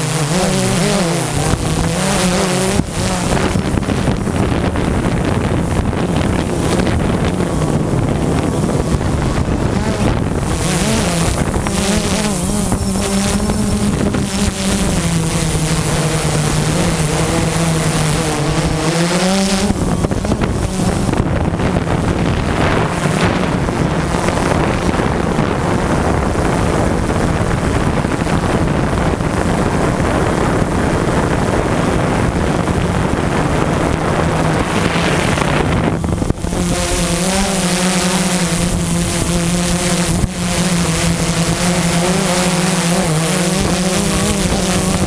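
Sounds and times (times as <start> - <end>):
loud rushing noise: 0.0 - 38.2
drone propellers humming: 0.0 - 45.0.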